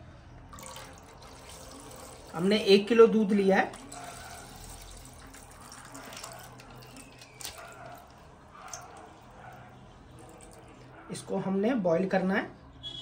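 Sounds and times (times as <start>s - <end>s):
milk trickling and splashing: 0.5s - 11.0s.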